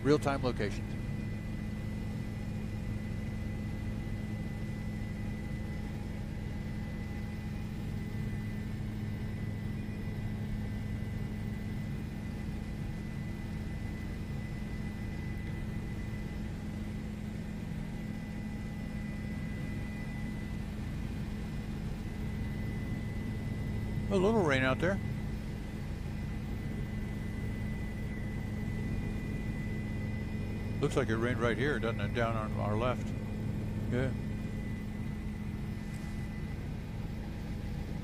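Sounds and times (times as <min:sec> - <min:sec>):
helicopter drone: 0:00.0 - 0:38.0.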